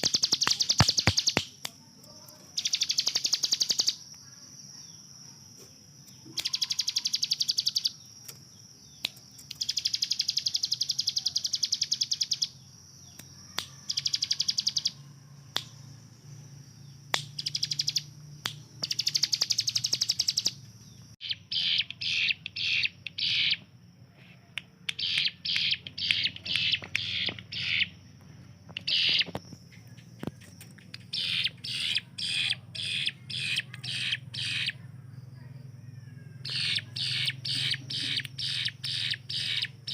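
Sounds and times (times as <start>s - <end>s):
bird singing rattling trills: 0.0s - 5.2s, 6.0s - 24.0s, 25.0s - 39.9s.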